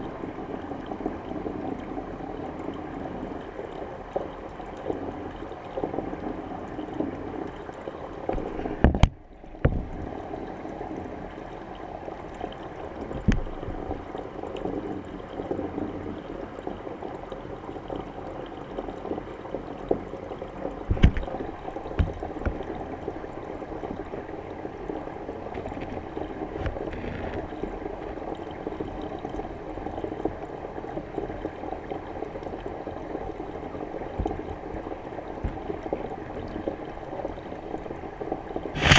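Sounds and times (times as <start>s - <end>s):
muffled underwater water churning: 0.0s - 38.9s.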